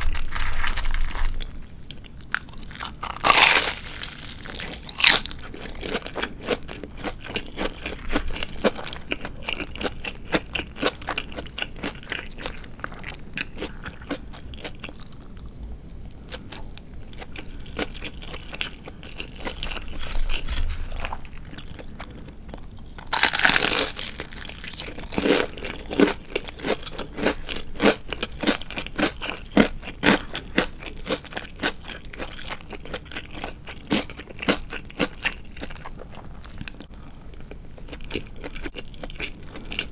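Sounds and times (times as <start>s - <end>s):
chewing crispy fried chicken: 0.0s - 39.9s.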